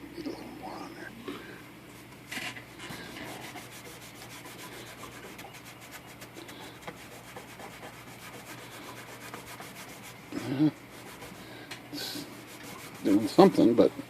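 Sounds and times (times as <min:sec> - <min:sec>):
rubbing on painted metal: 0:02.0 - 0:13.9.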